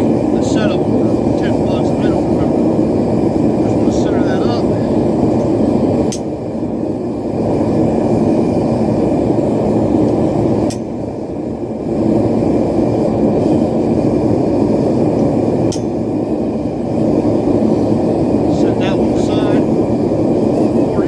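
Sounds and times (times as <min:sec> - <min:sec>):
forge burner roaring: 0:00.0 - 0:21.0.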